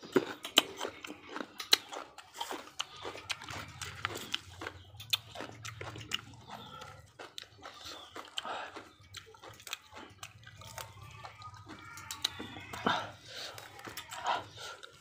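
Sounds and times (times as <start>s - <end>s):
chewing and mouth smacking: 0.0s - 15.0s.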